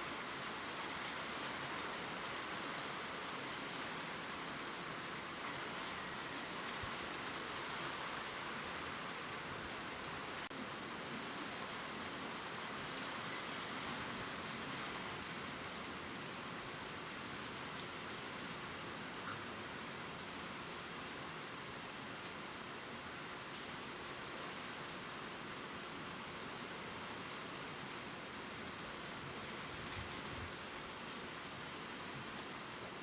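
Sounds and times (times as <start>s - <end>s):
rain falling on leaves: 0.0s - 33.0s.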